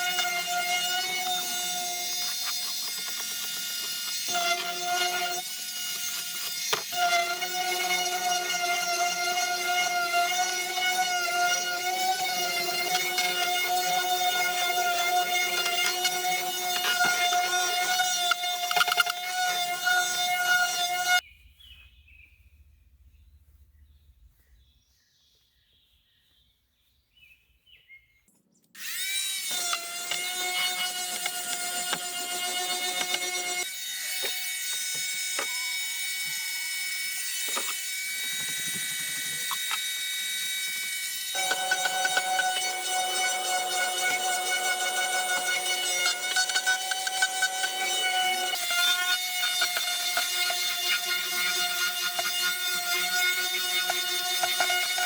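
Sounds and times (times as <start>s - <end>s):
power sander whining: 0.0s - 21.2s, 28.8s - 55.0s.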